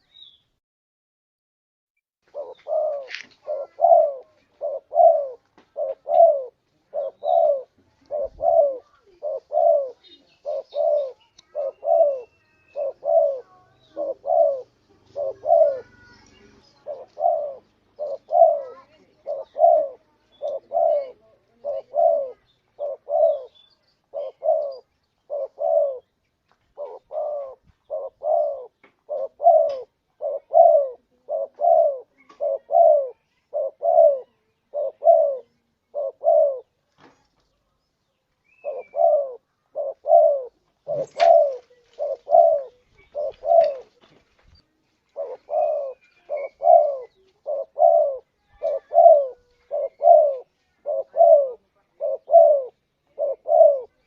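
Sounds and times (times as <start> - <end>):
dove cooing: 2.3 - 36.8, 38.5 - 44.2, 45.0 - 54.0.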